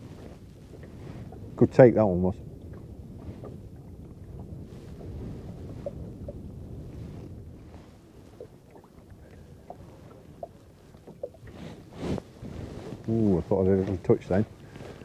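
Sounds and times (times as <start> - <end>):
waves lapping against boat: 0.0 - 15.0
wind buffeting microphone: 0.0 - 15.0.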